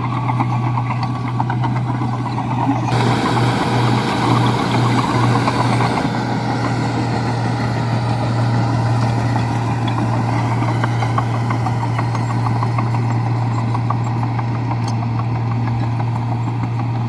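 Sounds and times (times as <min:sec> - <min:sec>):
bulldozer diesel engine droning: 0:00.0 - 0:17.0.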